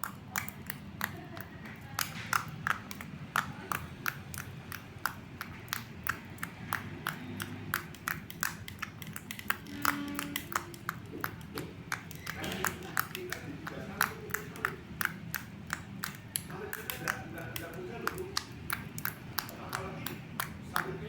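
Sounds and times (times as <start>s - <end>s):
slime squelching with wet clicks: 0.0s - 21.0s.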